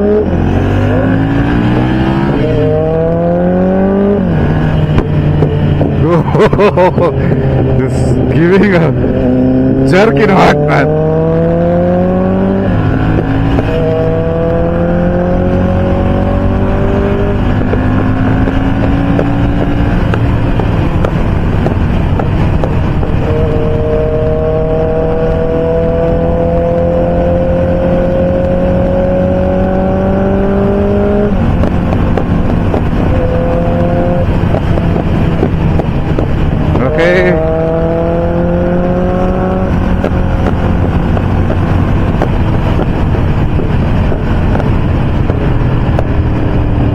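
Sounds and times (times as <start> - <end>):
motorcycle engine at speed: 0.0 - 46.9
wind noise: 0.0 - 46.9.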